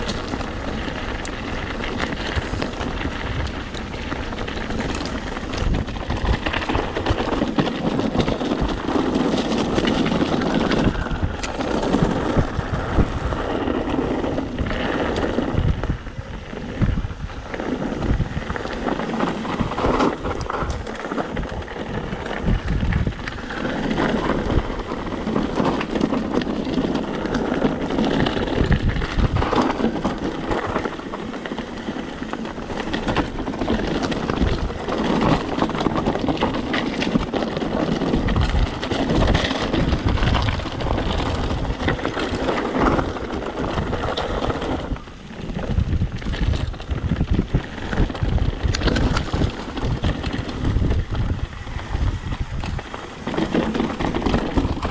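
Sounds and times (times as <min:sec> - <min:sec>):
bike rattling over stones: 0:00.0 - 0:54.9
wind buffeting microphone: 0:00.0 - 0:54.9.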